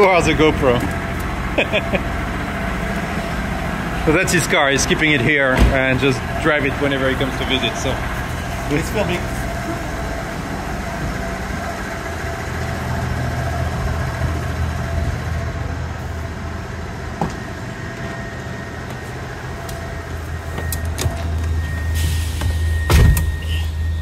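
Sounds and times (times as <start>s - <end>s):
van engine idling: 0.0s - 24.0s.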